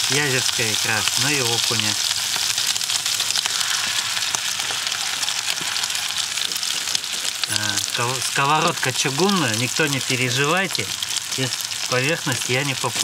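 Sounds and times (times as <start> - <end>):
roe sizzling in a pan: 0.0 - 13.0.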